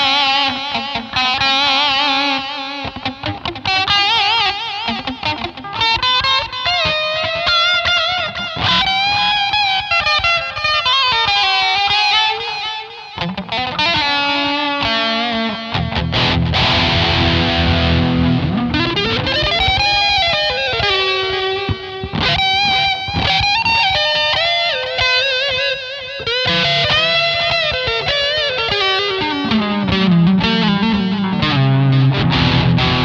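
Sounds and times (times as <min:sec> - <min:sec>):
electric guitar lead: 0:00.0 - 0:33.0.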